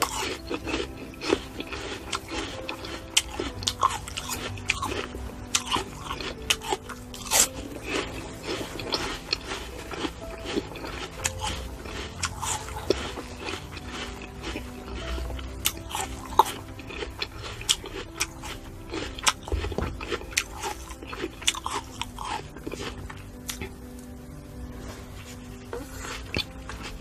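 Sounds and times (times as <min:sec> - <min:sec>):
faint background music: 0:00.0 - 0:27.0
fruit being chewed: 0:00.0 - 0:27.0.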